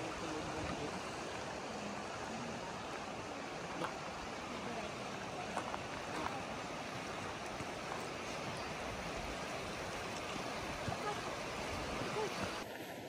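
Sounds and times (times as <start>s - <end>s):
stream water flowing: 0.0s - 13.0s.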